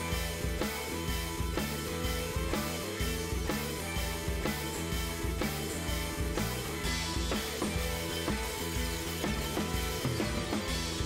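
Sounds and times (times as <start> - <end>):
background music with drums: 0.0 - 11.0.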